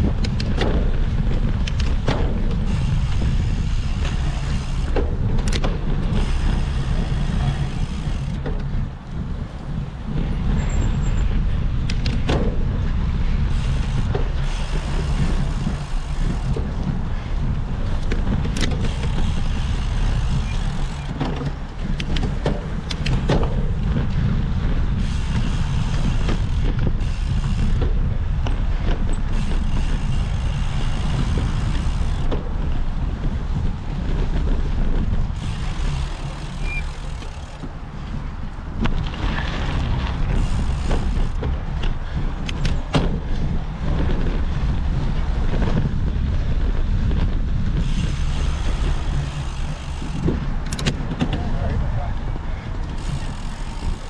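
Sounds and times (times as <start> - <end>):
bicycle tyres on rough ground: 0.0 - 54.0
bike knocks and rattles: 0.0 - 54.0
wind rumble on microphone: 0.0 - 54.0.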